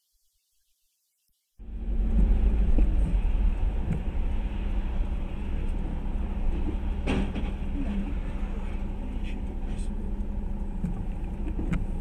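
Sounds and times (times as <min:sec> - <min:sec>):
car engine and road rumble: 0:01.6 - 0:12.0.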